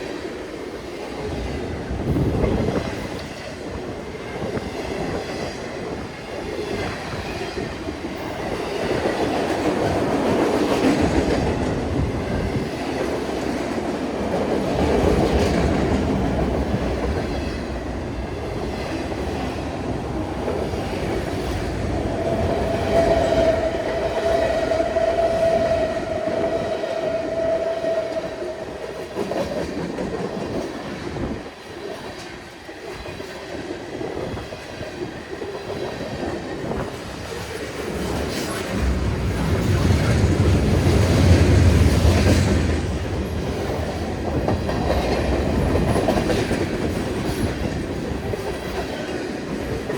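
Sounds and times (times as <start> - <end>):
freight train cars rolling on rails: 0.0 - 49.9.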